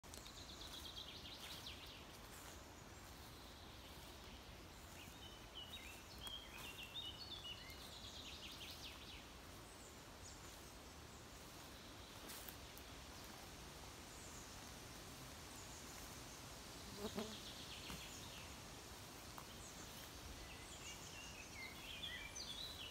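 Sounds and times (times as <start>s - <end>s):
small songbirds singing: 0.0s - 13.4s, 14.0s - 22.9s
steady background hiss: 0.1s - 22.9s.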